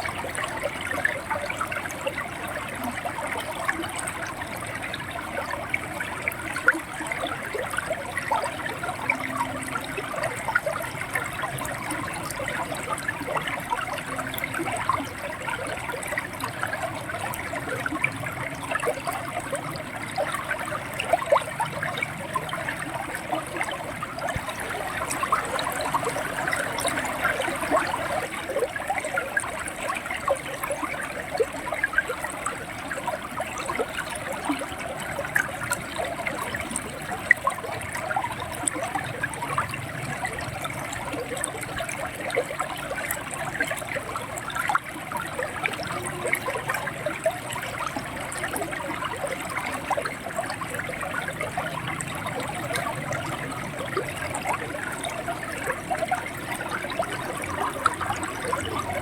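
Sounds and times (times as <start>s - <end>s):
river water gurgling over stones: 0.0s - 59.0s.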